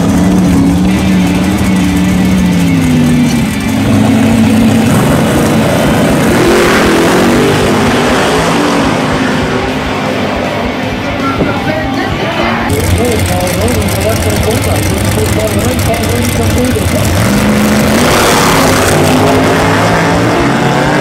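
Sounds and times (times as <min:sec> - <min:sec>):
loud drag car engine revving: 0:00.0 - 0:10.8, 0:12.7 - 0:21.0.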